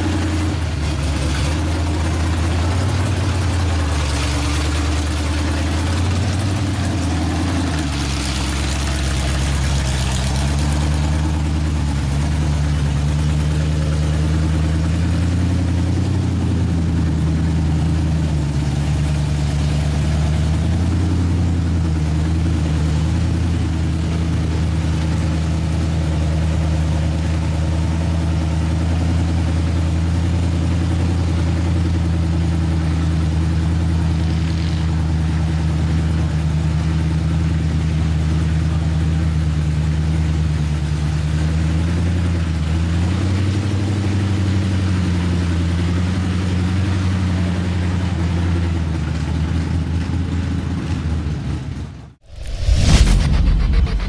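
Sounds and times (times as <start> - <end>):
truck engine idling: 0.0 - 43.1, 43.9 - 53.1.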